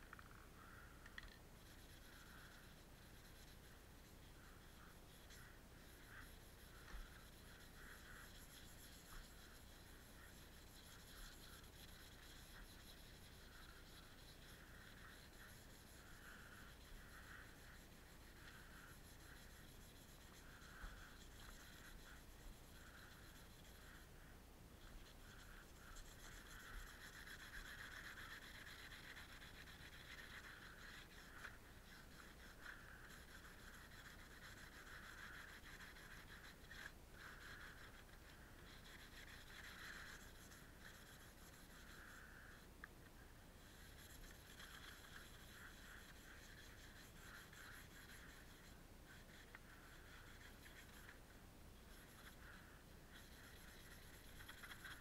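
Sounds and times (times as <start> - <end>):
sanding disc rubbing by hand: 1.2 - 24.1, 24.8 - 42.6, 43.6 - 51.2, 51.8 - 55.0.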